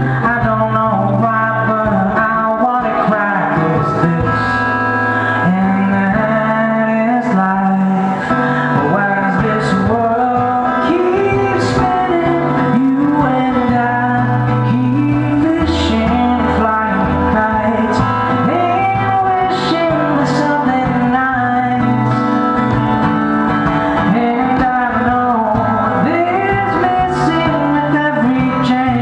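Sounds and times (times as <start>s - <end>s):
man singing: 0.0s - 22.7s, 23.6s - 29.0s
acoustic guitar strumming: 0.0s - 29.0s.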